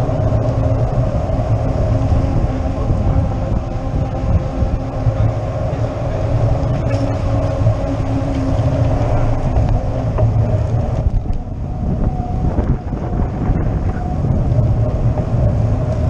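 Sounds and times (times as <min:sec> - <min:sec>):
tyres rolling on asphalt: 0:00.0 - 0:16.0
wind rumble on microphone: 0:00.0 - 0:16.0.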